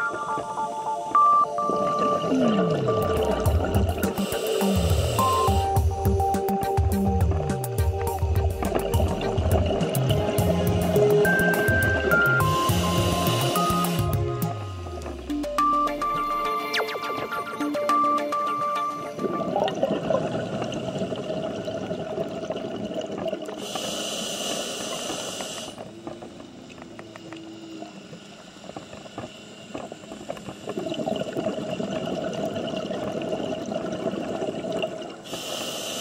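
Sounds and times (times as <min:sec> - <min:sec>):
underwater bubbles burbling: 0:00.0 - 0:23.9, 0:24.9 - 0:35.5.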